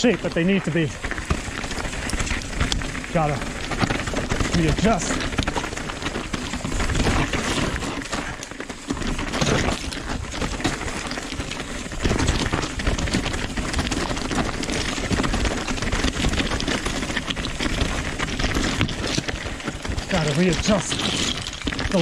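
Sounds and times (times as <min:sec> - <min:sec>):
bike clattering and rattling: 0:00.0 - 0:22.0
tyres crunching over dirt and rocks: 0:00.0 - 0:22.0.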